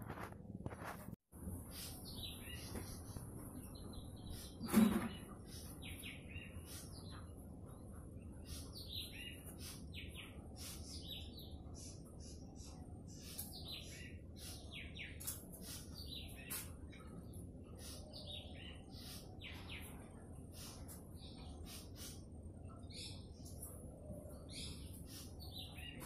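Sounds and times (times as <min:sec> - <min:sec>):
small birds chirping: 0:01.4 - 0:26.0.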